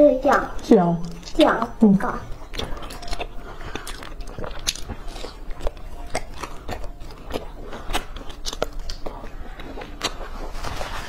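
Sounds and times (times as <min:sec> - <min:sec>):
chewing crunchy pastry: 0:00.6 - 0:11.0.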